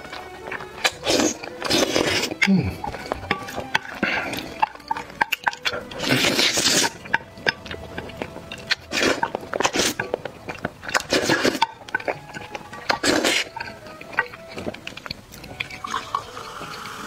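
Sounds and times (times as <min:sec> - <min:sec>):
chewing and lip smacks: 0:00.0 - 0:16.7
noodles slurped: 0:00.0 - 0:17.0.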